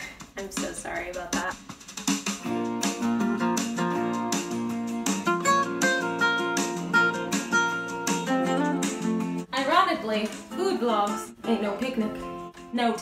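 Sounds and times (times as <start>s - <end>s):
plucked guitar music: 2.2s - 13.0s.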